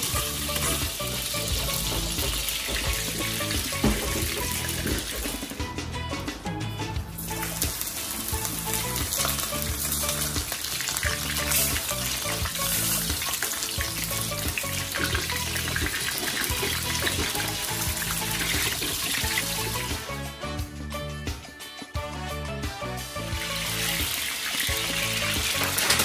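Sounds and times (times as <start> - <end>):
fish sizzling in hot oil: 0.0 - 5.6, 7.1 - 20.2, 23.0 - 26.0.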